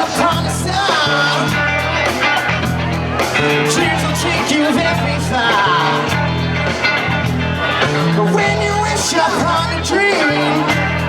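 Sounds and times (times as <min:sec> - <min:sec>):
live rock band music: 0:00.0 - 0:11.0.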